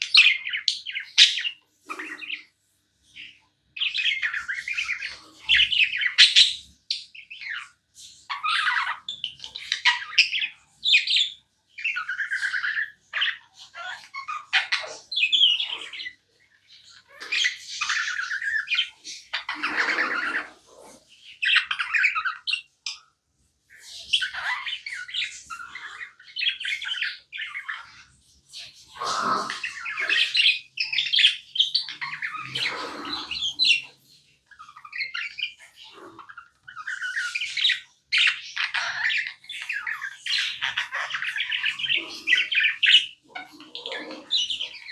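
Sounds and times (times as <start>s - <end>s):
bird squawk: 0.0s - 2.5s, 3.2s - 23.1s, 23.7s - 44.9s
budgerigar chirping: 0.0s - 2.5s, 3.2s - 23.0s, 23.7s - 44.9s.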